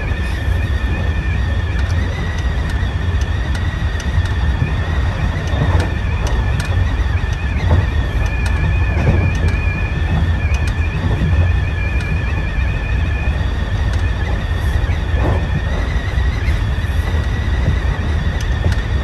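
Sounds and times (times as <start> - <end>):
electric train rumbling: 0.0 - 19.0
high-pitched squeal: 0.0 - 19.0
wheels clicking over rail joints: 0.0 - 19.0.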